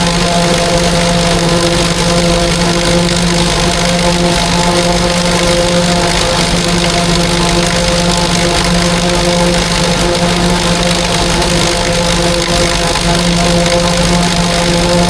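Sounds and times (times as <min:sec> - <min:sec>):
farm machinery engine drone: 0:00.0 - 0:15.0.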